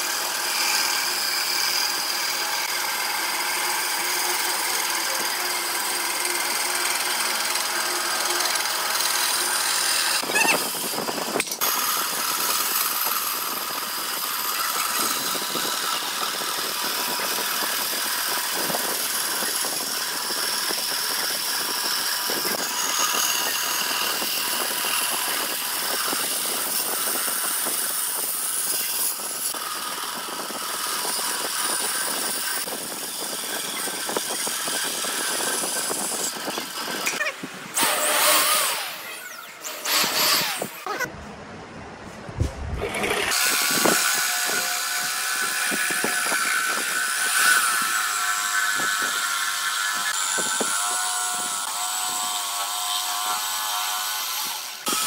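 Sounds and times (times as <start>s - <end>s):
bandsaw cutting wood: 0.0s - 41.1s, 42.8s - 55.0s.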